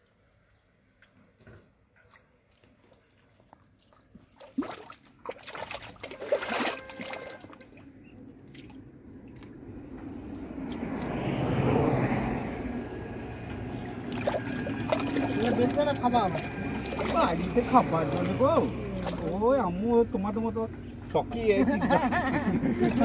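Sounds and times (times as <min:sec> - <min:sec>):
muddy water sloshing: 0:01.9 - 0:23.0
mud squelching: 0:02.0 - 0:12.4, 0:13.6 - 0:21.5, 0:22.5 - 0:23.0.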